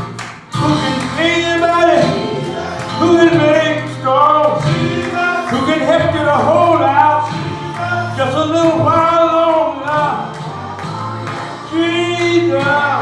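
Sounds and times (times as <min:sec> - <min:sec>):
instrumental backing with low bass: 0:00.0 - 0:13.0
voices singing gospel song: 0:00.0 - 0:13.0.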